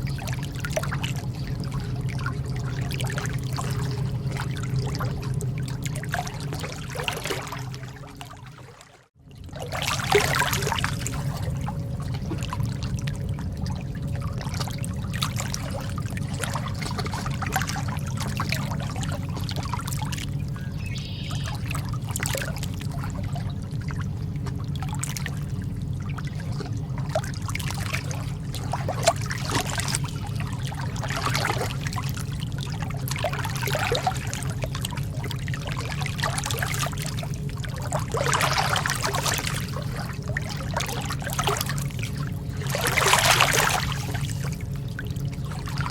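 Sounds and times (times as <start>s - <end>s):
small splashes: 0.0s - 20.6s, 21.2s - 45.9s
sea water lapping: 0.0s - 45.9s
steady low rumble: 0.0s - 45.9s.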